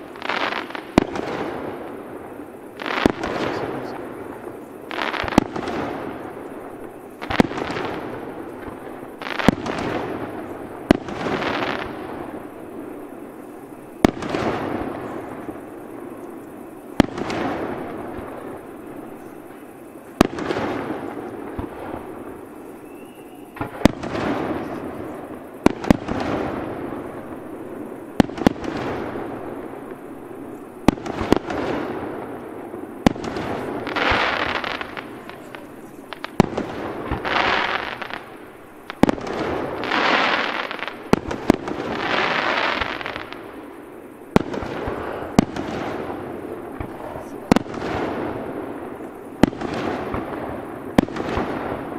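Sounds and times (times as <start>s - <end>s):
firework hissing: 0.0s - 15.7s, 20.2s - 51.9s.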